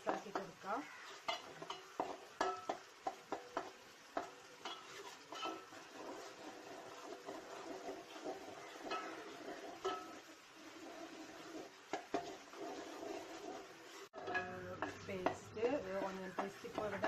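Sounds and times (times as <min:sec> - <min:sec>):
onion paste sizzling in oil: 0:00.0 - 0:17.0
spoon scraping and knocking pan: 0:00.0 - 0:17.0.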